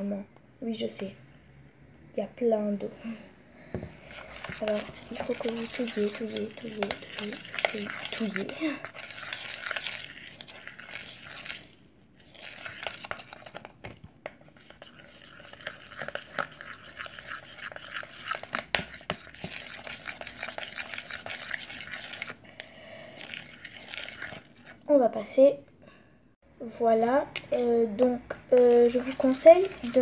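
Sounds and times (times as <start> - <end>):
dough stirred in a bowl: 3.8 - 25.3, 27.0 - 30.0.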